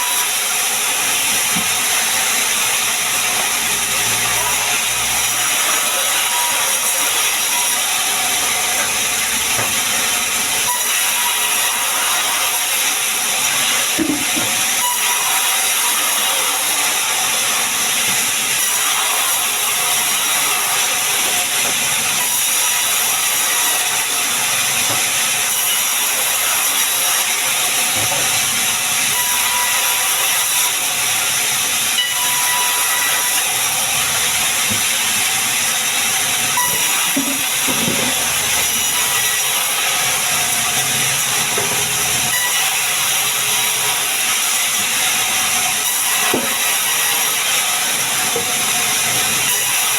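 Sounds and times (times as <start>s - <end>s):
sawmill saw cutting timber: 0.0s - 49.9s.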